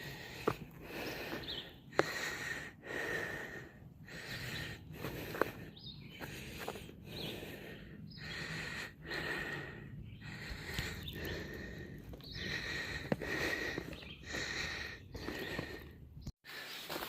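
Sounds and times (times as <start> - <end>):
footsteps on soft forest trail: 0.0 - 8.4, 9.1 - 17.0
person breathing: 0.0 - 17.0.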